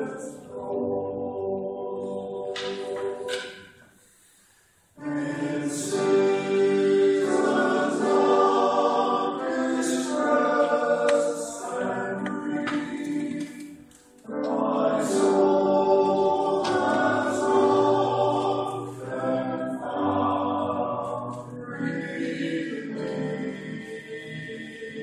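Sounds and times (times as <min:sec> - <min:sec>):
male choir singing: 0:00.0 - 0:03.8, 0:05.0 - 0:25.0.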